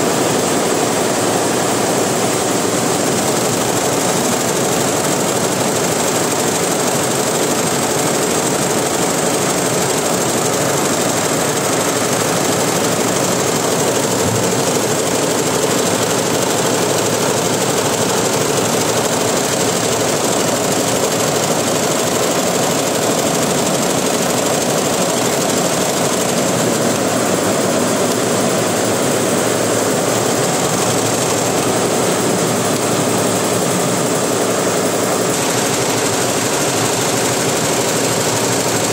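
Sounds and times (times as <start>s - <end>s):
embroidery machine stitching: 0.1s - 38.9s.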